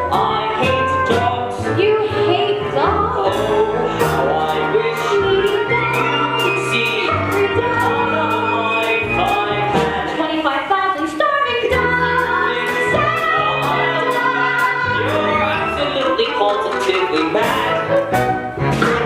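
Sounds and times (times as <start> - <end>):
pit band playing: 0.0 - 10.9, 11.6 - 19.0
people singing: 0.0 - 18.0.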